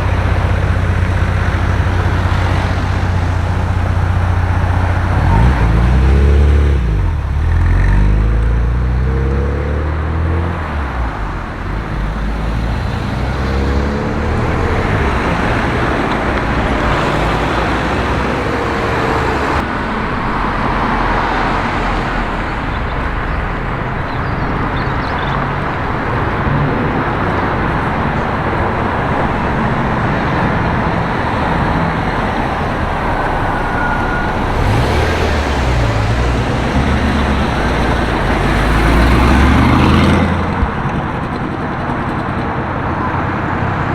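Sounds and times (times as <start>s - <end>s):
cars driving past: 0.0s - 43.9s.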